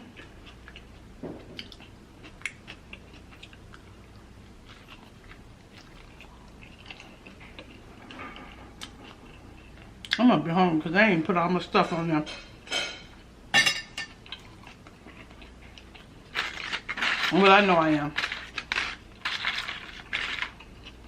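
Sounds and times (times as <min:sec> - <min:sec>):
person chewing food: 0:00.0 - 0:10.2, 0:14.1 - 0:21.0.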